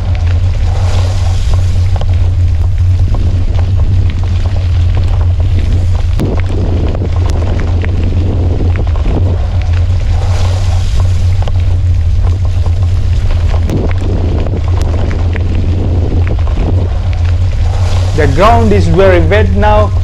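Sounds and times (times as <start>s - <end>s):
wind and riding noise: 0.0s - 20.0s.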